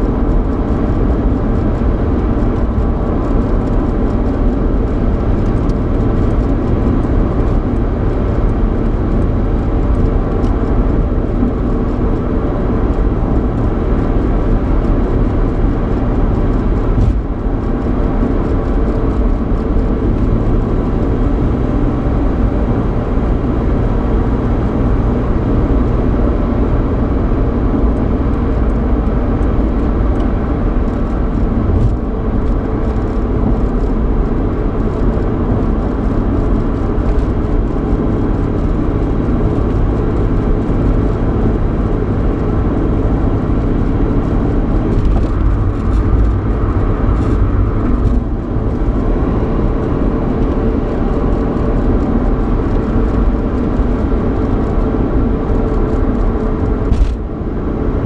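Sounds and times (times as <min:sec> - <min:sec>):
car cabin road noise: 0:00.0 - 0:58.0.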